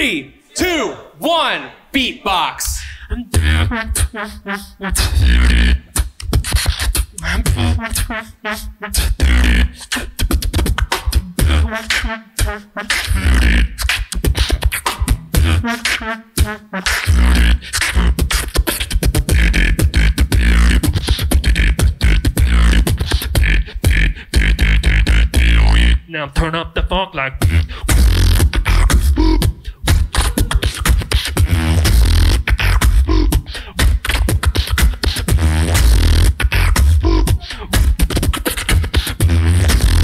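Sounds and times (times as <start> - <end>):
person beatboxing: 2.3 - 40.0
wavering pitched vocal sound: 2.4 - 40.0.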